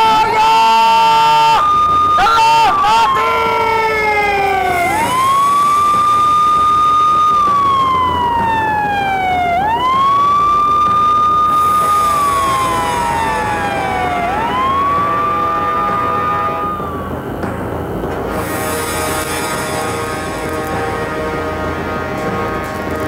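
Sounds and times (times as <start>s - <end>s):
megaphone siren wailing: 0.0s - 23.0s.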